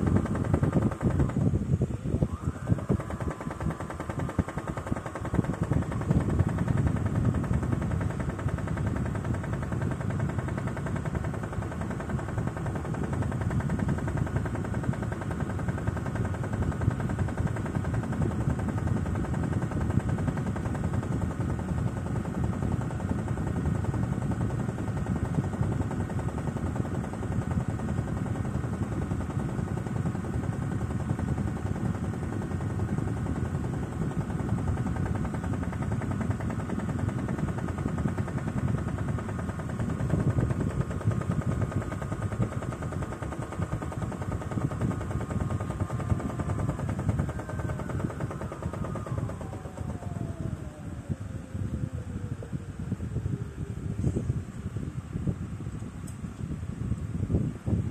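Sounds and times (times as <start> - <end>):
small electric motor humming: 0.0 - 57.5
fast irregular rattle: 0.0 - 57.9.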